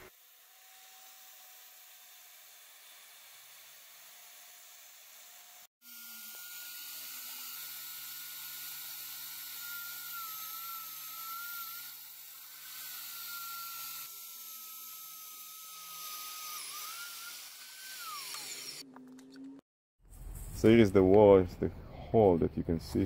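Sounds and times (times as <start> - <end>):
core drill motor whining: 0.0 - 19.6.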